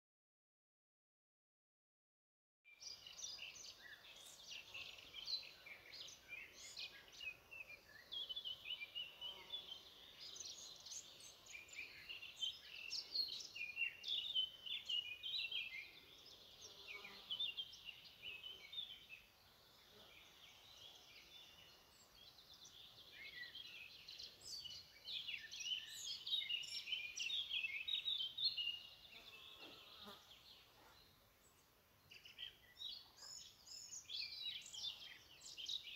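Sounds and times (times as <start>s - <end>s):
birds chirping and warbling: 2.7s - 35.9s.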